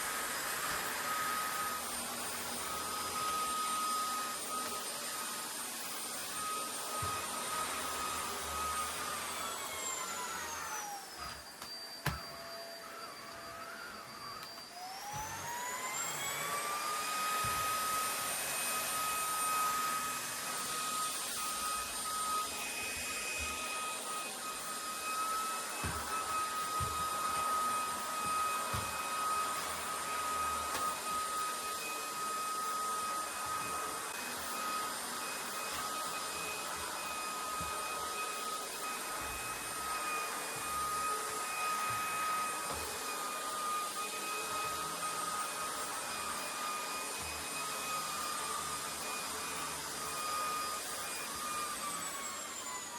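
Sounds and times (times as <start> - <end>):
vacuum cleaner motor whine: 0.0 - 52.9.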